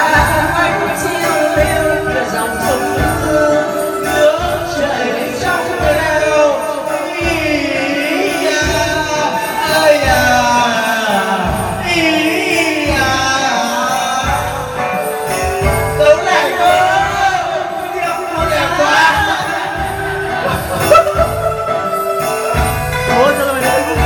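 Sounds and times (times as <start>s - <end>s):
karaoke music over speakers: 0.0s - 24.0s
men singing through microphones: 0.0s - 24.0s.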